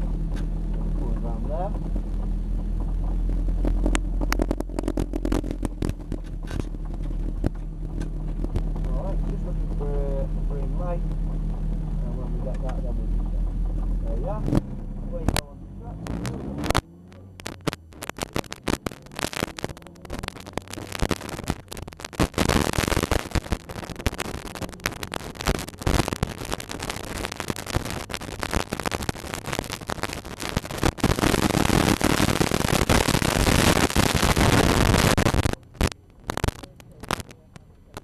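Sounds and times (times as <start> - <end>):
harsh microphone crackling: 0.0 - 38.0
race car engine: 0.0 - 38.0.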